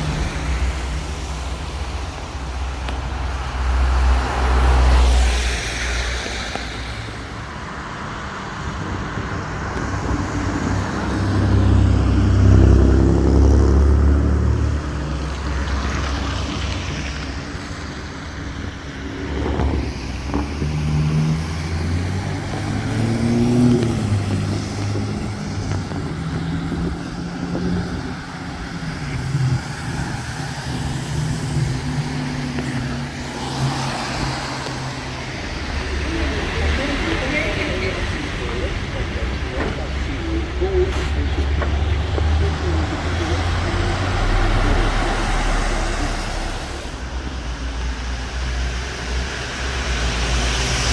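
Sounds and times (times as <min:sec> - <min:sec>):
cars passing: 0:00.0 - 0:50.9.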